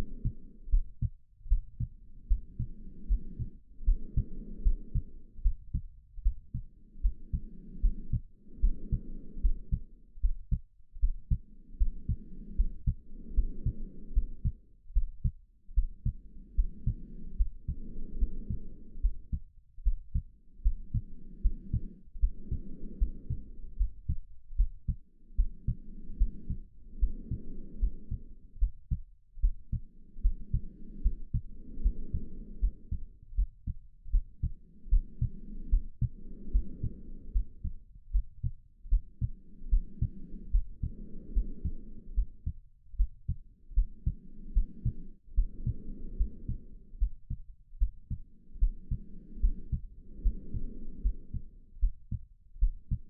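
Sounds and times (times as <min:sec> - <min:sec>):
heartbeat thumps: 0:00.0 - 0:53.0
slow steady breathing: 0:00.0 - 0:53.0.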